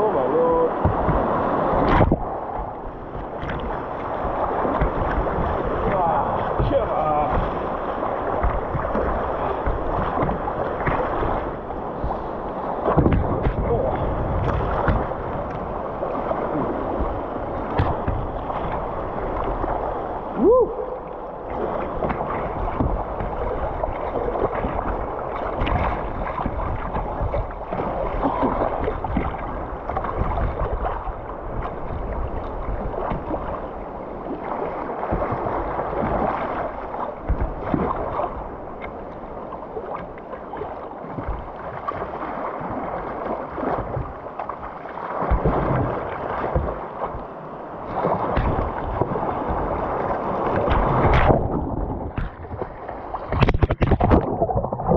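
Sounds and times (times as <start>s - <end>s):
river water rushing against kayak: 0.0s - 54.9s
wind buffeting microphone: 0.0s - 54.9s.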